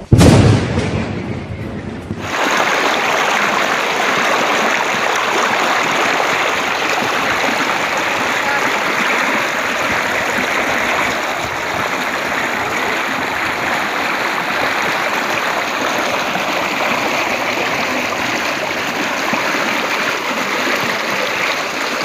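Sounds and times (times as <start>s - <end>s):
floodwater rushing: 2.2s - 22.0s.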